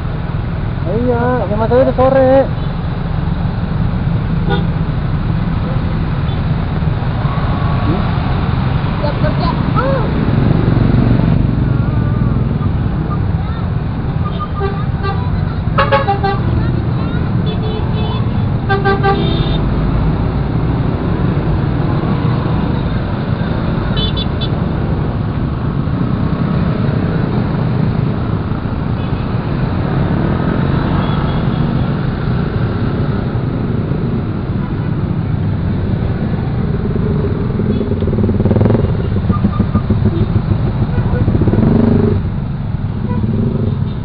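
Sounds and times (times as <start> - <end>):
motorcycle engine and road noise: 0.0 - 44.0.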